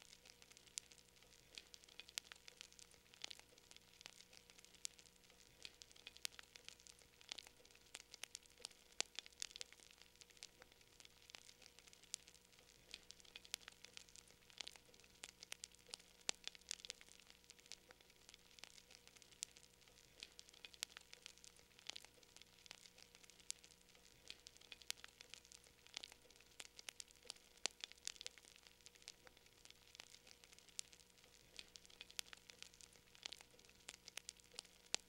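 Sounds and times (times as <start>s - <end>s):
low steady hum: 0.0s - 35.0s
wood fire crackling and popping: 0.0s - 35.0s.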